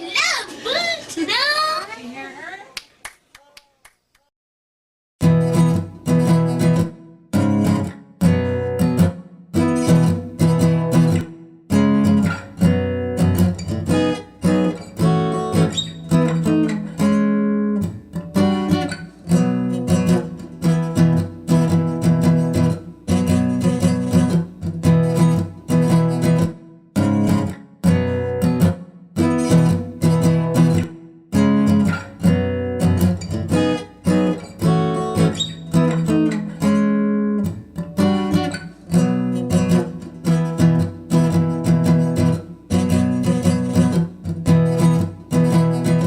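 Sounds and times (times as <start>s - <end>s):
acoustic guitar strumming chords: 5.2s - 46.0s.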